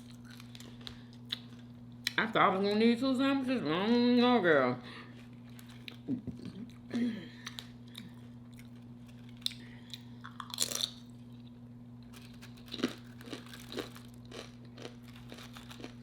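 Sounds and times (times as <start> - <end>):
chewing crunchy food: 0.0 - 2.2, 5.1 - 16.0.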